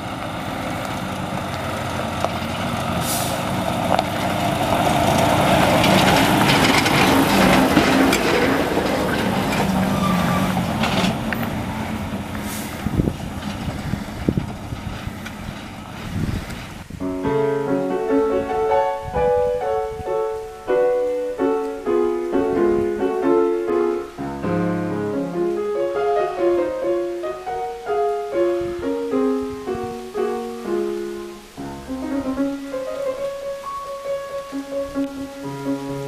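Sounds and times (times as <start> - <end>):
solo piano classical piece: 3.0 - 36.0.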